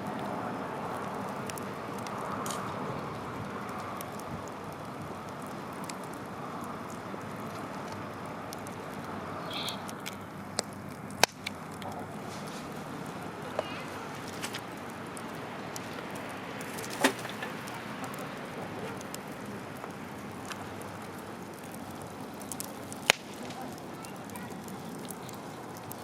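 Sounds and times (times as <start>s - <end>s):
fire popping: 0.0s - 26.0s
wood fire crackling: 0.0s - 26.0s.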